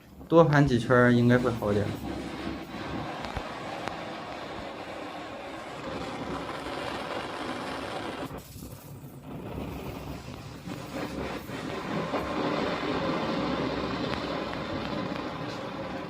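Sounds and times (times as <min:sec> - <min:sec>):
burner flame rushing: 0:00.0 - 0:16.0.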